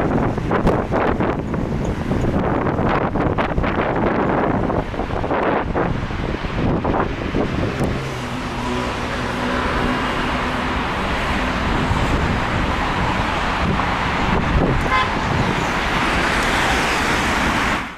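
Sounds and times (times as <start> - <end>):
road traffic passing: 0.0 - 17.9
vehicle engine hum: 0.0 - 17.9
wind buffeting microphone: 0.0 - 17.9.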